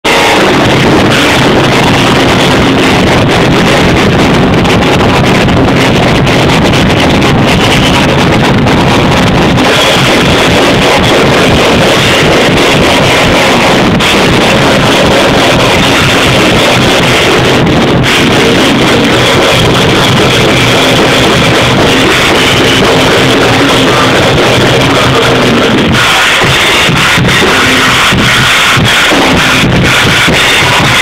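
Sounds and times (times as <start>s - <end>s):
distorted electric guitar and drums: 0.0s - 31.0s.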